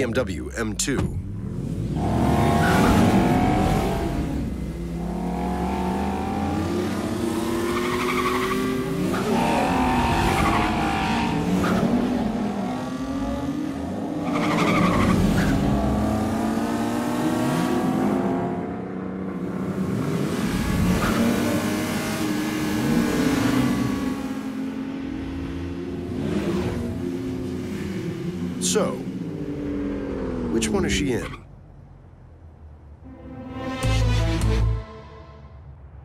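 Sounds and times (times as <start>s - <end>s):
car engines revving: 0.8s - 33.0s.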